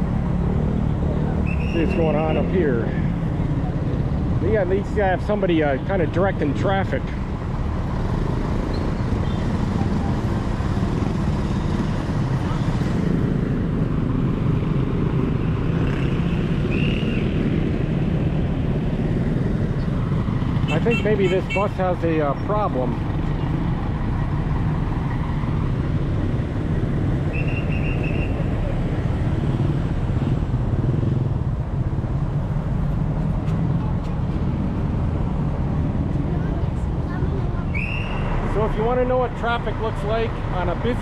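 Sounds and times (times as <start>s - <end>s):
car engines running: 0.0s - 41.0s
motorcycles passing: 0.0s - 41.0s.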